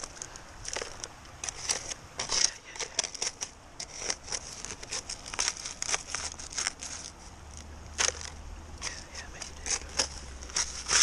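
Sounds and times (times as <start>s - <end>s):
roots tearing: 0.0s - 11.0s
trowel scraping gravel: 0.0s - 11.0s.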